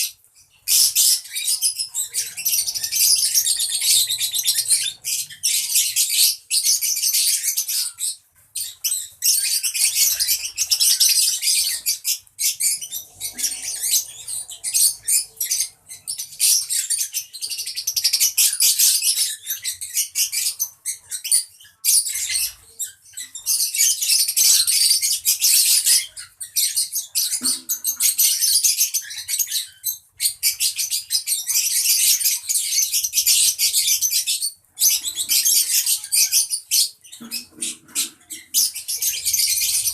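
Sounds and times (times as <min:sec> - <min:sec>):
flock of birds chattering: 0:00.0 - 0:39.9.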